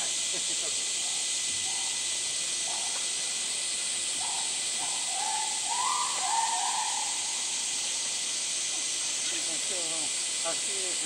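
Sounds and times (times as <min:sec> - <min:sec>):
high-pitched outdoor hiss: 0:00.0 - 0:11.0.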